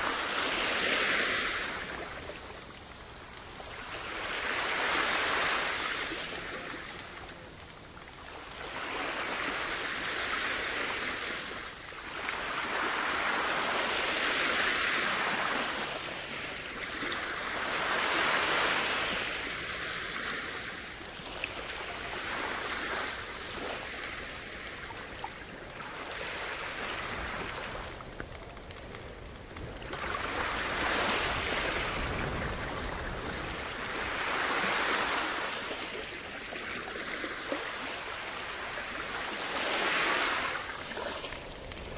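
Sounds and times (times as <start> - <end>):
sea waves washing onto shore: 0.0 - 41.9.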